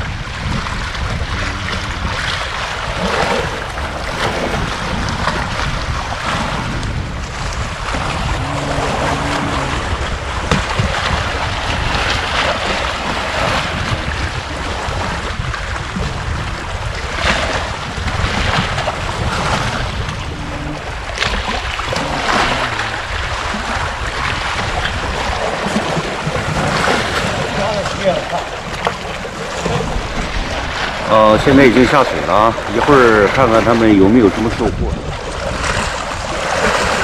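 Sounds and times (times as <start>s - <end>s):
waves washing on shore: 0.0s - 37.0s
wind buffeting microphone: 0.0s - 37.0s.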